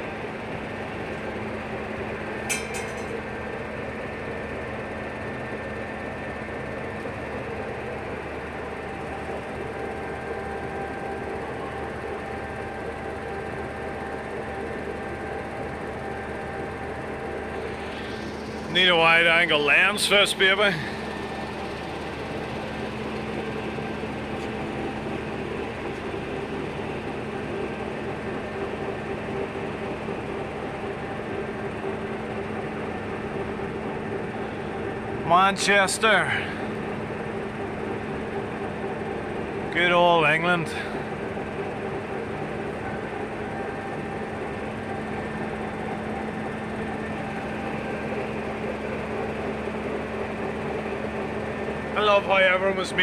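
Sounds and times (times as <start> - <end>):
machinery humming: 0.0 - 53.0.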